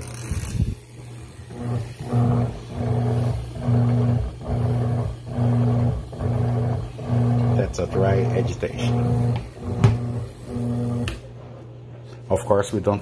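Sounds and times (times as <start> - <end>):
washer agitator motor humming: 0.0 - 11.5.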